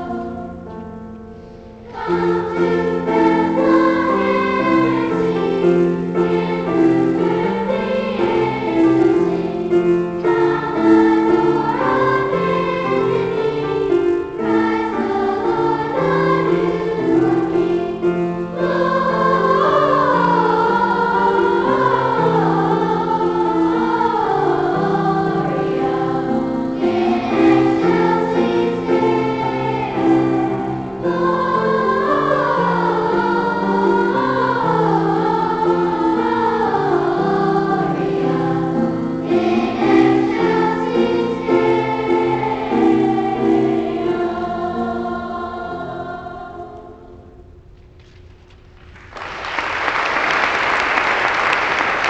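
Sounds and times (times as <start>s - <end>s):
children's choir singing: 0.0s - 47.6s, 49.6s - 52.0s.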